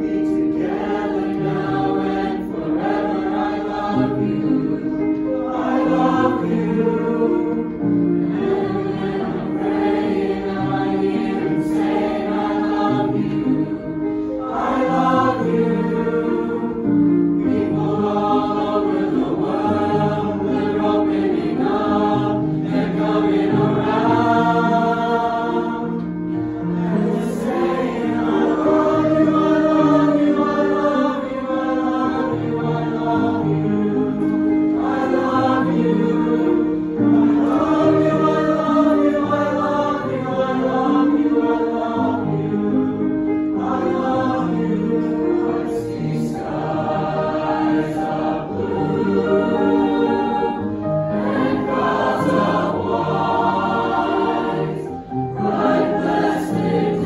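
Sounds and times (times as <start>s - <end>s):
choir of young voices singing: 0.0s - 57.0s
grand piano accompaniment: 0.0s - 57.0s.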